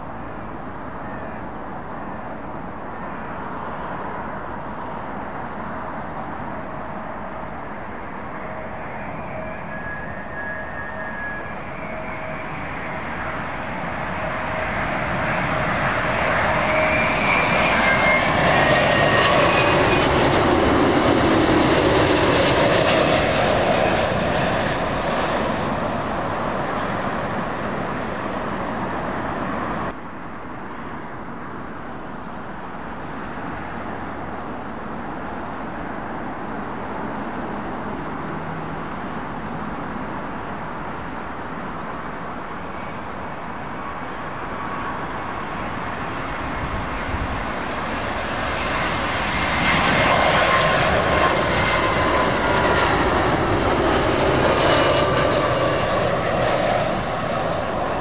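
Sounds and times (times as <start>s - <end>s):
airliner passing overhead: 0.0s - 58.0s
distant approaching airliner: 0.0s - 58.0s.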